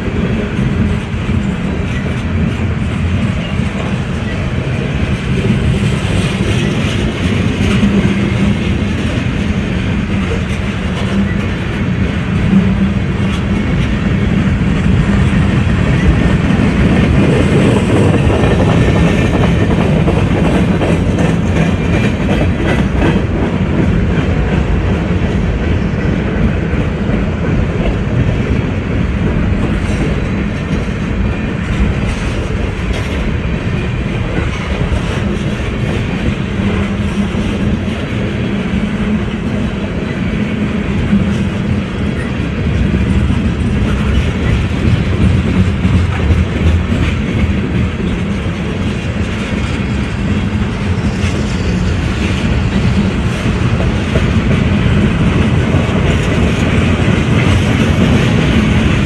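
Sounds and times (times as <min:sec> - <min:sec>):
train passing on rails: 0:00.0 - 0:59.0.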